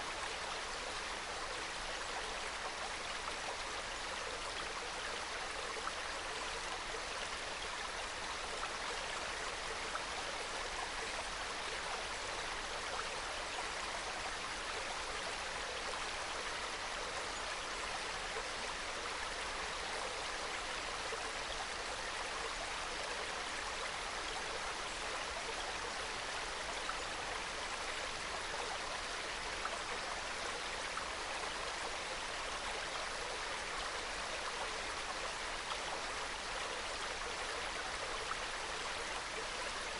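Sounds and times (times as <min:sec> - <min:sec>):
stream burbling over rocks: 0:00.0 - 0:39.9.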